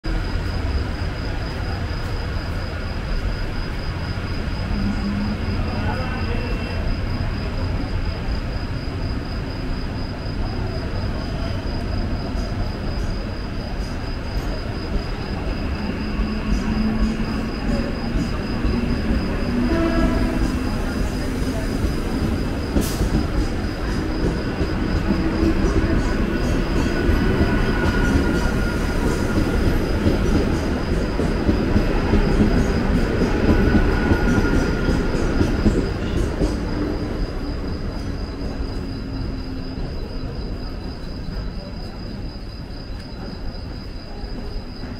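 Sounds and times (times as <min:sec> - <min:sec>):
train wheels rumbling on rails: 0:00.1 - 0:44.9.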